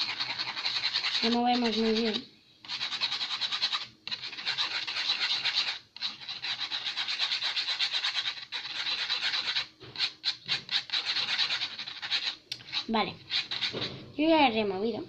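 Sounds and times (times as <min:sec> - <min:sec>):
utensil scraping a container: 0:00.0 - 0:14.0.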